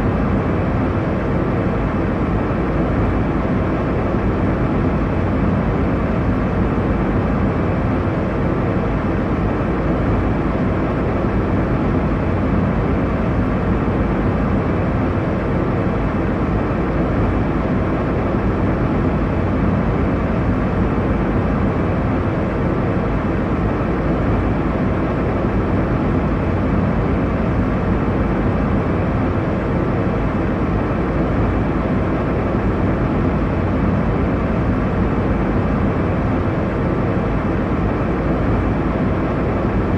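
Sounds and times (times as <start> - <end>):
airliner cabin engine and airflow rush: 0.0 - 39.9.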